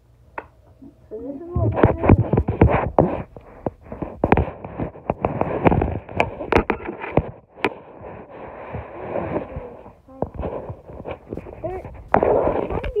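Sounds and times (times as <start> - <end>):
rubbing noise: 1.5 - 13.0.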